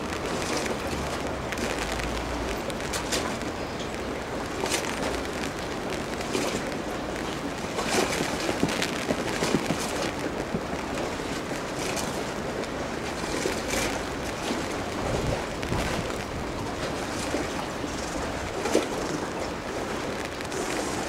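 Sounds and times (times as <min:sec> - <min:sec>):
rushing water: 0:00.0 - 0:21.0
wind: 0:00.0 - 0:21.0.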